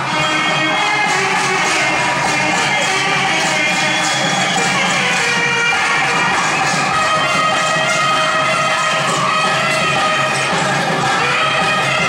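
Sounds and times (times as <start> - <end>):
loud folk music: 0.0 - 12.0.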